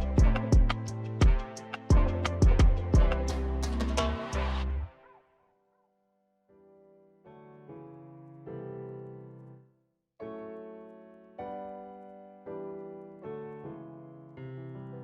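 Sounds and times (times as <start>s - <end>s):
soft piano chords: 0.0s - 4.0s, 6.5s - 15.0s.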